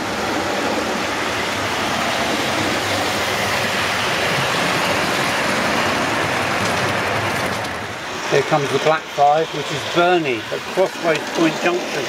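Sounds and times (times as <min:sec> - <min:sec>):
model train rumbling on track: 0:00.0 - 0:12.0.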